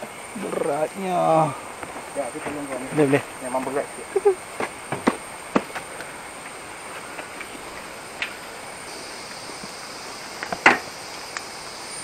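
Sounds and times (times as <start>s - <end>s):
high insect drone: 0.0s - 12.0s
rainforest background hiss: 0.0s - 12.0s.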